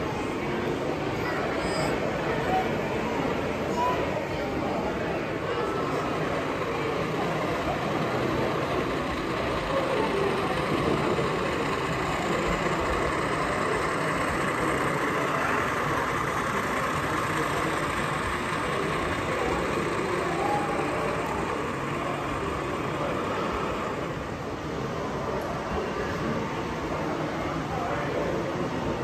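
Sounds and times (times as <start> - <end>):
crowd murmur in echoing hall: 0.0 - 29.0.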